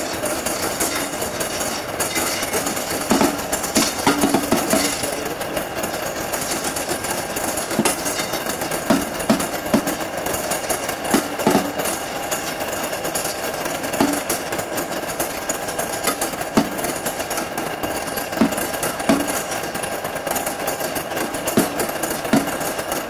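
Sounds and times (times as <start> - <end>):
train rattling on track: 0.0 - 23.0
train wheels knocking: 0.0 - 23.0.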